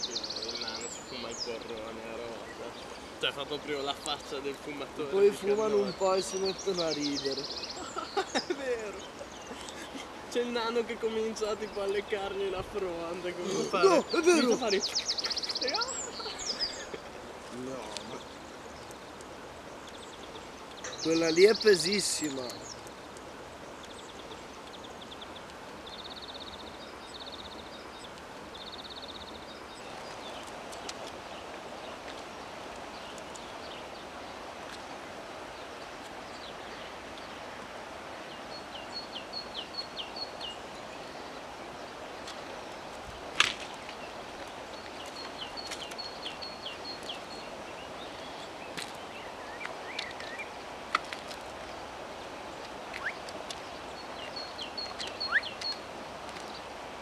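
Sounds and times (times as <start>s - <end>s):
river rushing: 0.0s - 57.0s
small birds chirping: 0.0s - 57.0s.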